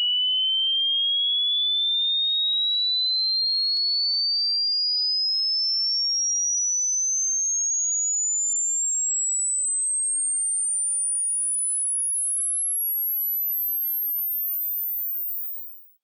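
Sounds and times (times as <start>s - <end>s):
high sine tone sweeping upward: 0.0s - 3.0s, 4.6s - 16.0s.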